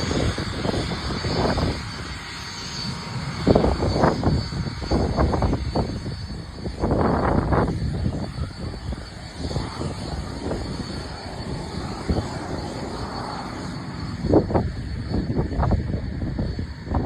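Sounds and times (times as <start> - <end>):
jet engines whining: 0.0 - 17.0
wind buffeting microphone: 0.0 - 17.0.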